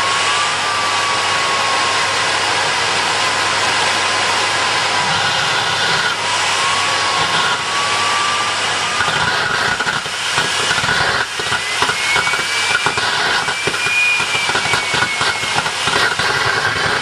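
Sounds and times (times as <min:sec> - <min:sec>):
jet engine roaring: 0:00.0 - 0:17.0
turbine whistle: 0:00.0 - 0:17.0.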